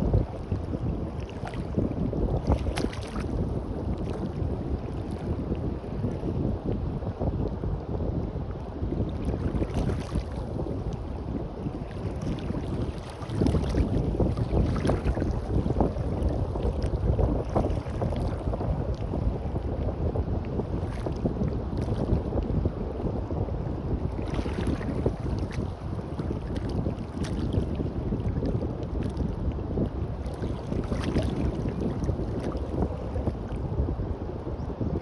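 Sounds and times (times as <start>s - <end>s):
surf washing on a beach: 0.0s - 35.0s
wind buffeting the microphone: 0.0s - 35.0s.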